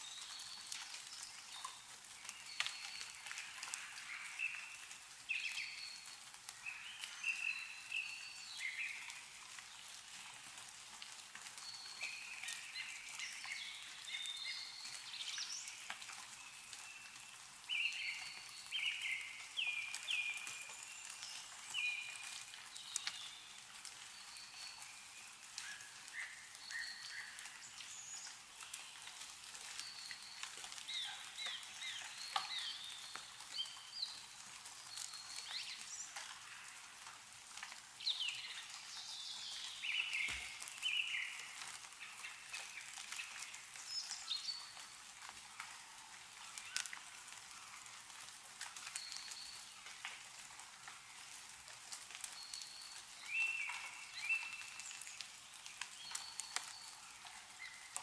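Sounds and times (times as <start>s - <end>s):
small birds chirping: 0.0s - 48.0s, 48.7s - 50.1s, 52.2s - 58.0s
meltwater dripping: 0.0s - 58.0s.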